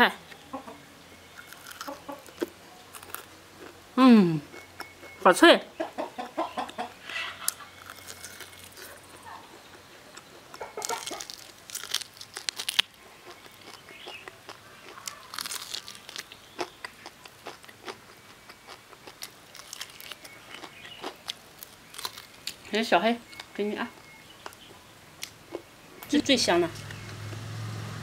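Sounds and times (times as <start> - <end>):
crunching fried food: 1.4 - 3.8, 7.1 - 27.4.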